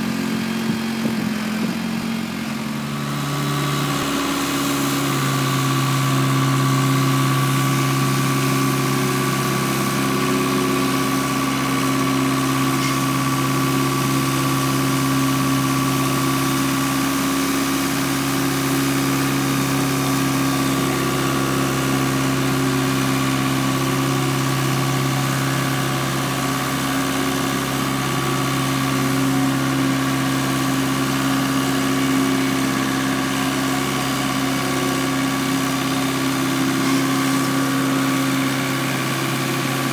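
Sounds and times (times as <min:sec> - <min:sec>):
sweeper engine droning with whine: 0:00.0 - 0:39.9.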